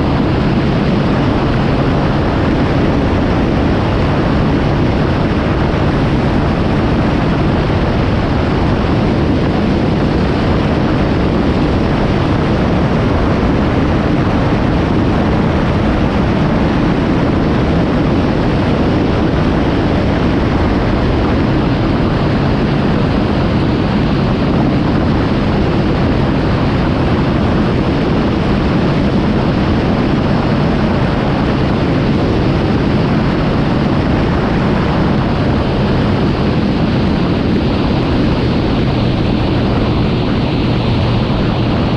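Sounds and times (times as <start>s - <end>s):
motorcycle engine drone: 0.0s - 41.9s
wind rushing on microphone: 0.0s - 41.9s.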